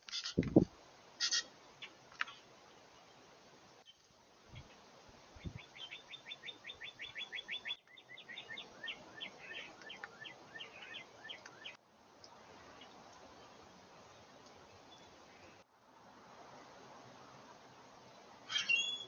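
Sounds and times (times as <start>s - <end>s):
songbird singing: 1.2s - 15.6s, 18.0s - 19.0s.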